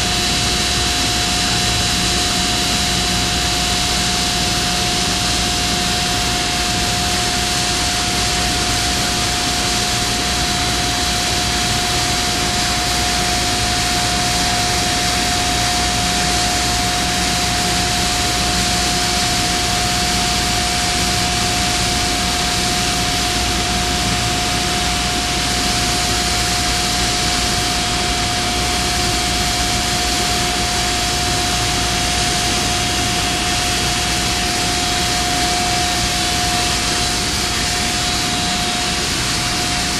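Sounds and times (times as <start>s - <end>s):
pitched machinery hum: 0.0s - 39.9s.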